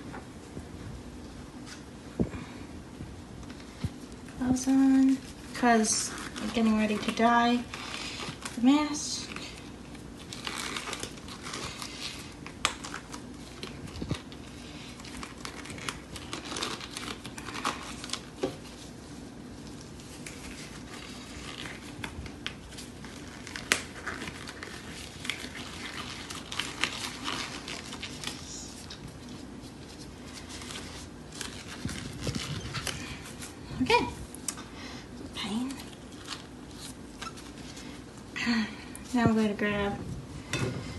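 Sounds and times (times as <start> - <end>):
disposable gloves crinkling: 3.2 - 40.9.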